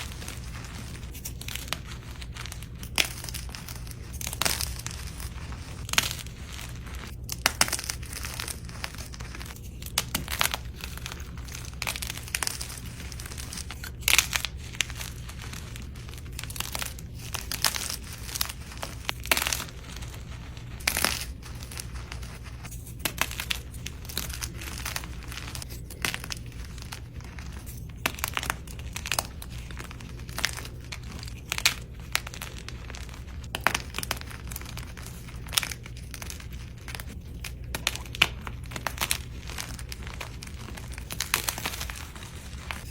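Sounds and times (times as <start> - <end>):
chalk crunching and crumbling: 0.0 - 42.9
steady low hum: 0.0 - 42.9.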